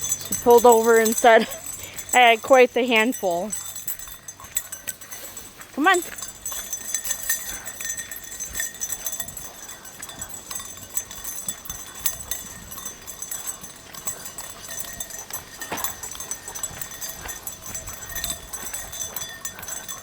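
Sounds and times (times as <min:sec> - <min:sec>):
footsteps and dog claws clicking: 0:00.0 - 0:20.0.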